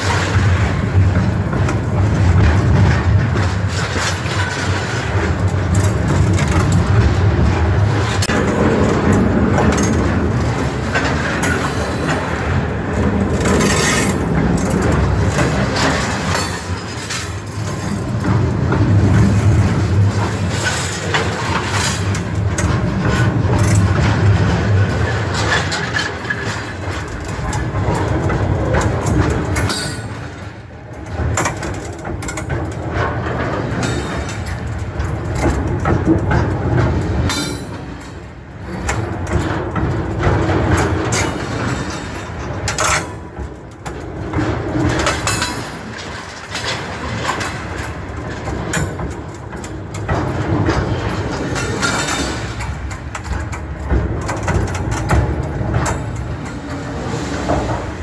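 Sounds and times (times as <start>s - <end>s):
railway cars rumbling over track: 0.0s - 58.0s
wheels clattering on rails: 0.0s - 58.0s.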